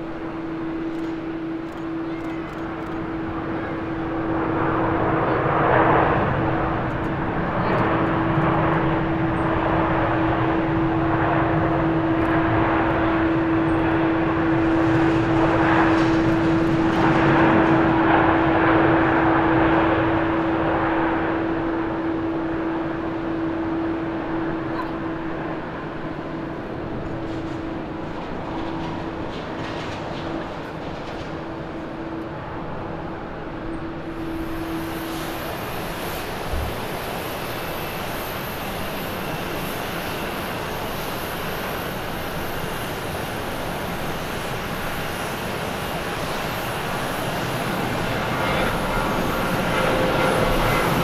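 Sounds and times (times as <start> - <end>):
jet engines hum: 0.0 - 51.0.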